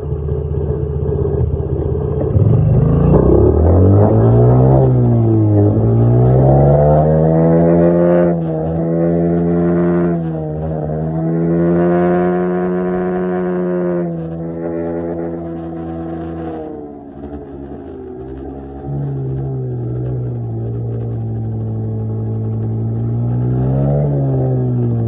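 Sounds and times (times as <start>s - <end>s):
dirt bike engine revving: 1.5s - 25.0s.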